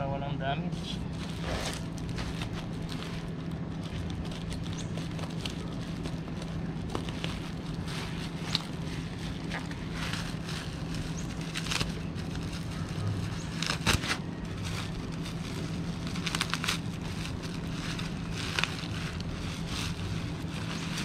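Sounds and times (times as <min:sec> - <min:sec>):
steady low hum: 0:00.0 - 0:21.0
plastic wrapping crinkling: 0:00.8 - 0:21.0.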